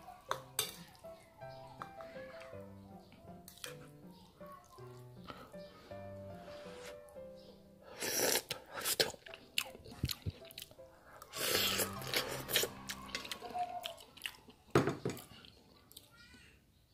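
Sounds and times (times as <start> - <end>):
faint background music: 0.0 - 16.9.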